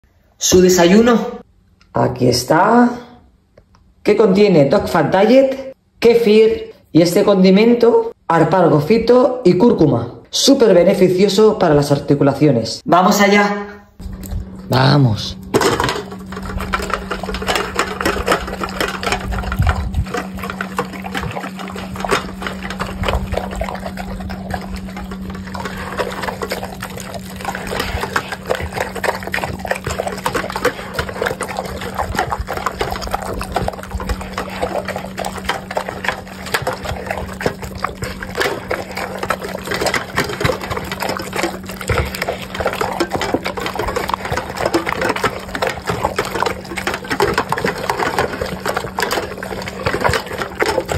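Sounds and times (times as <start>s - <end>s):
dogs lapping and chewing food: 0.0s - 1.5s, 4.1s - 12.9s, 14.0s - 50.9s.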